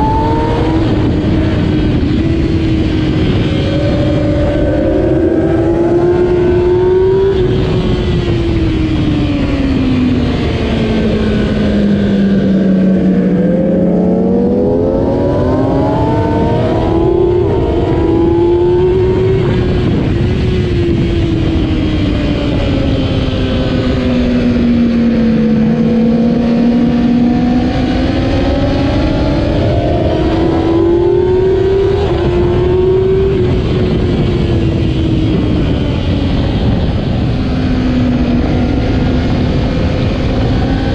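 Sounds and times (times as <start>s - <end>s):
motorcycle engine at racing speed: 0.0s - 40.9s
steady rush of noise: 0.0s - 40.9s.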